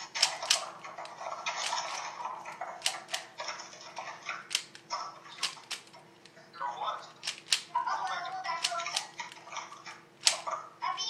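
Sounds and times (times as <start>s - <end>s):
puzzle cube clicking and rattling: 0.0s - 6.4s, 7.1s - 9.6s, 10.2s - 10.5s.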